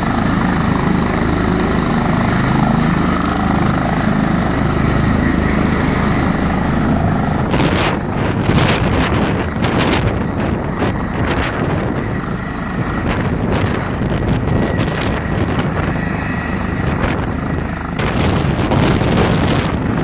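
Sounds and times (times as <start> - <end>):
helicopter rotor noise: 0.0 - 20.0
high turbine whine: 0.0 - 20.0.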